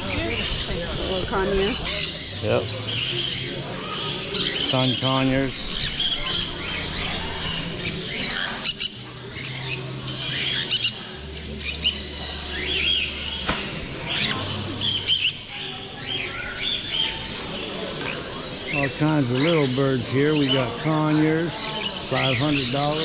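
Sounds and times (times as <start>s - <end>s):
parrots chirping and squawking: 0.0s - 13.4s, 14.0s - 23.0s.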